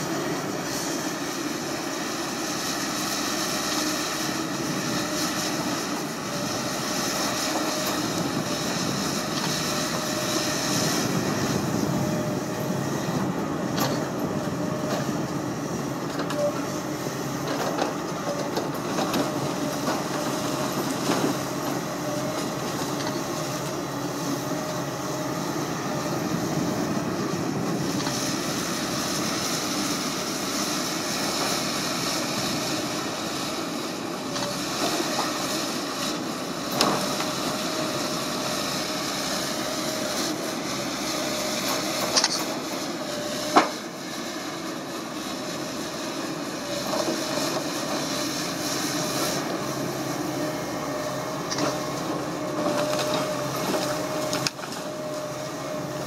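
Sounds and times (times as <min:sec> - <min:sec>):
excavator diesel engine and hydraulics: 0:00.0 - 0:56.0.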